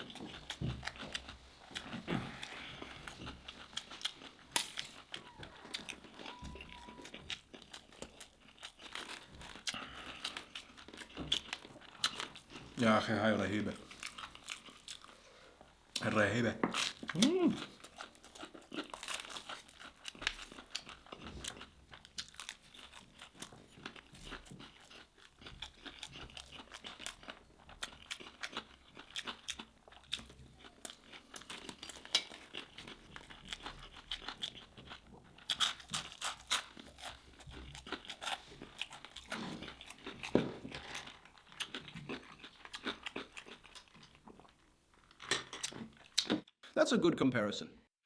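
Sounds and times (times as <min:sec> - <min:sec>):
chewing crispy food: 0:00.0 - 0:46.6.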